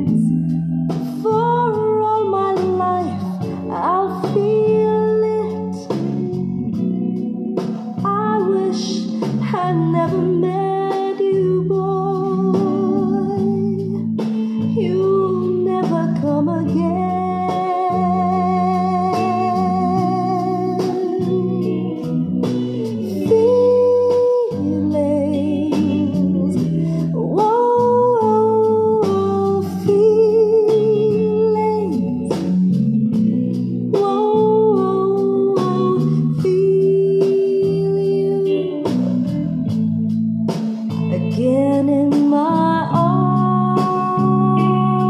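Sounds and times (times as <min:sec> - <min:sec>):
ballad through small speakers: 0:00.0 - 0:45.0.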